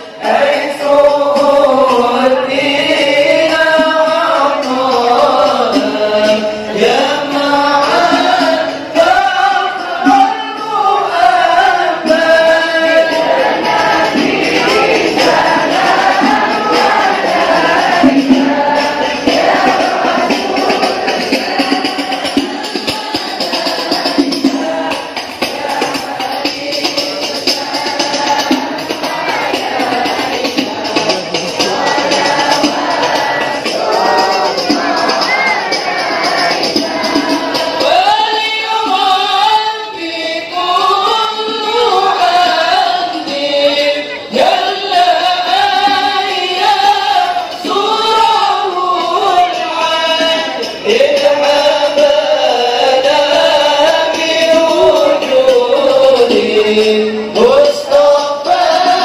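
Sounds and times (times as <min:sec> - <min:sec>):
crowd singing praise song: 0:00.0 - 0:59.0
tambourine hand percussion: 0:00.0 - 0:59.0.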